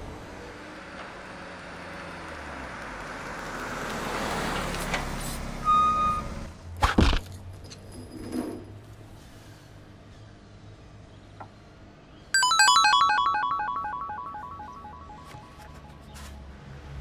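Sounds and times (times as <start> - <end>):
van engine and road noise: 0.0 - 12.2, 14.6 - 17.0.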